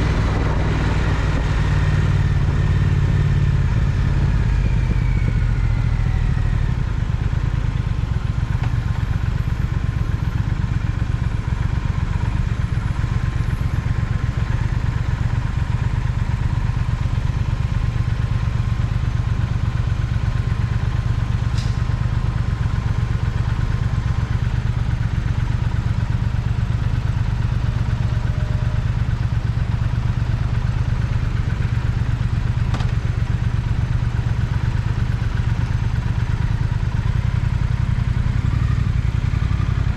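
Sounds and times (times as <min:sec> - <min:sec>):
motorcycle engine running at low revs: 0:00.0 - 0:39.9.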